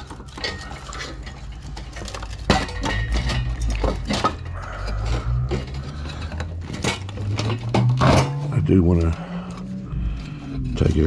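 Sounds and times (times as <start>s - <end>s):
computer parts clattering: 0.0s - 11.0s
low steady hum: 0.0s - 11.0s.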